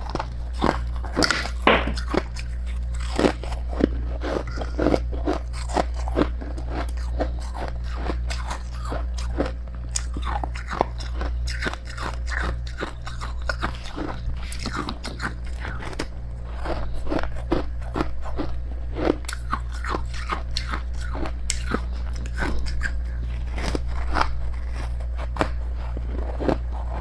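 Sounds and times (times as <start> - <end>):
crunching frost while chewing: 0.0 - 27.0
steady low hum: 0.0 - 27.0.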